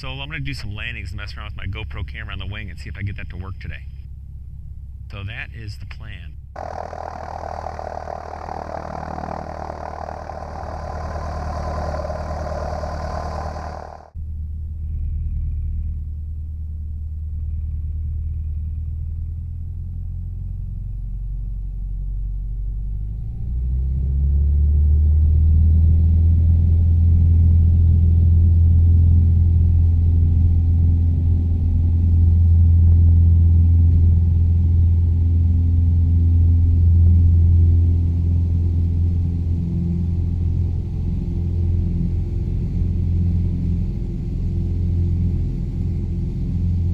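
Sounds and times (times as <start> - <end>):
propeller plane engine: 6.4 - 16.0, 16.6 - 46.9.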